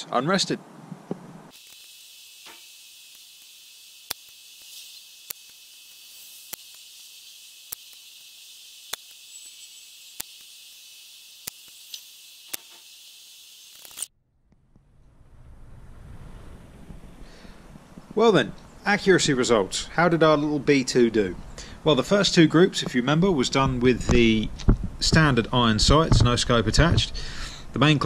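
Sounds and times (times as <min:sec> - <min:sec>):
steady high hiss: 0:00.2 - 0:14.1, 0:15.3 - 0:28.0.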